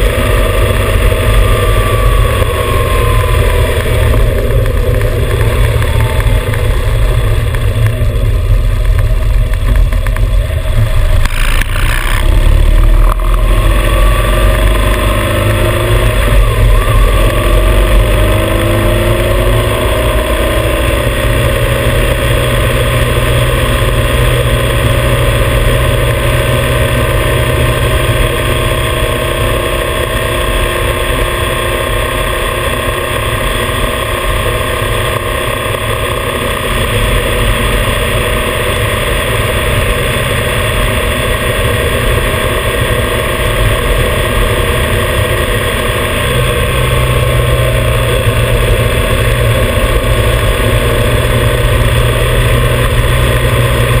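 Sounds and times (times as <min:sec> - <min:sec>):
motorcycle engine cruising: 0:00.0 - 0:54.0
road noise: 0:00.0 - 0:54.0
wind noise: 0:00.0 - 0:54.0.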